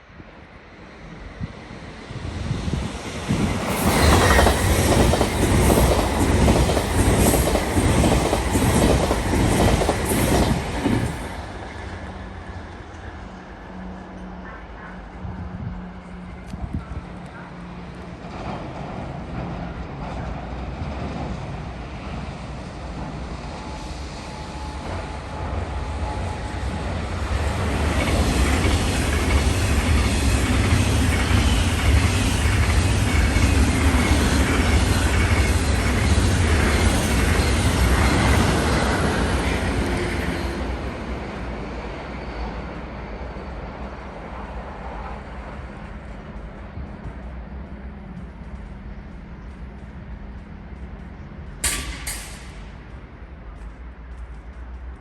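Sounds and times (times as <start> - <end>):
train rolling on rails: 0.0 - 55.0.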